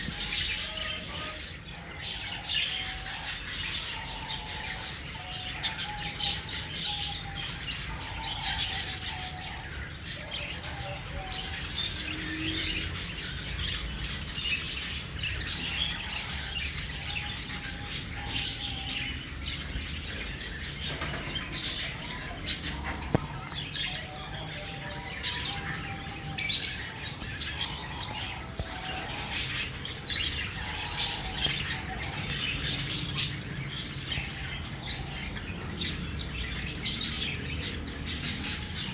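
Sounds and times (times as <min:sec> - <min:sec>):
parrots chirping and chattering: 0:00.0 - 0:38.9.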